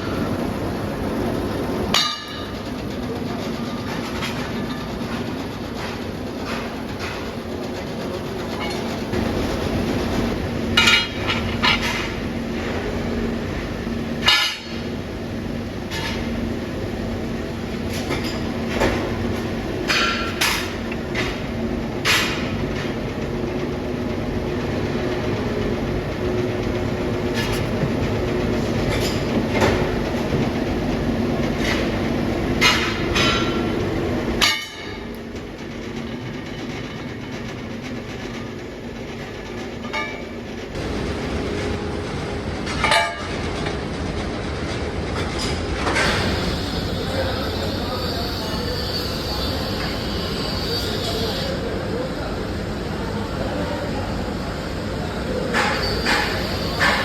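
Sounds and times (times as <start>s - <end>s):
metalworking machinery humming: 0.0s - 57.0s.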